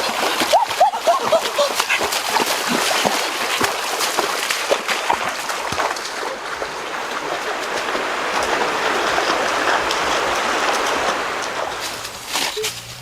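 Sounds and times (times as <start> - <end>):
rushing water: 0.0 - 13.0
water splashing: 0.0 - 13.0.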